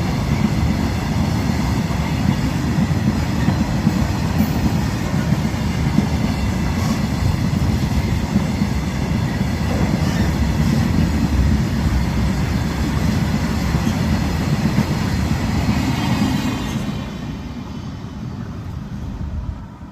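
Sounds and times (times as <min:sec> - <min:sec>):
train wheels rumbling on rails: 0:00.0 - 0:19.9.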